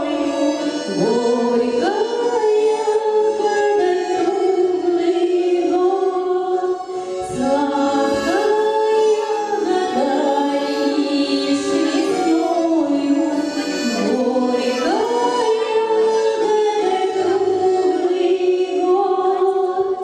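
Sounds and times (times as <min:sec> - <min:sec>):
person singing long held notes: 0:00.0 - 0:20.0.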